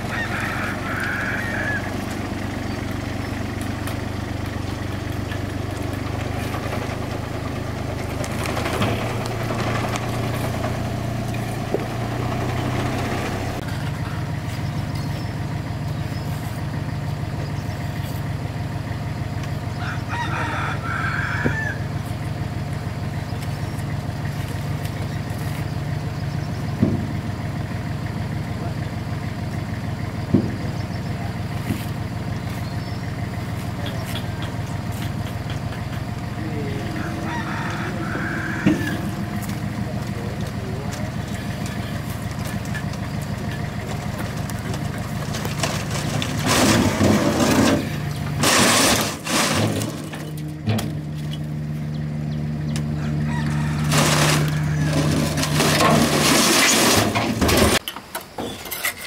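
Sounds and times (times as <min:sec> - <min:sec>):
motor running steadily: 0:00.0 - 0:48.6, 0:50.0 - 0:56.1.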